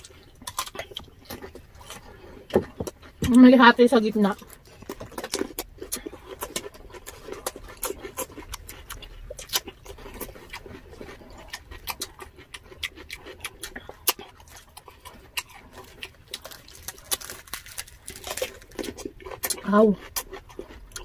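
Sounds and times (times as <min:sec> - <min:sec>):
crunching and chewing: 0:00.0 - 0:21.0.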